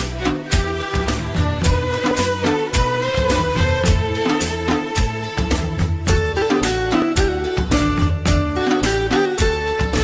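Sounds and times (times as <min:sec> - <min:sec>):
drum beat: 0:00.1 - 0:09.6
melodic instrument line: 0:00.1 - 0:10.0.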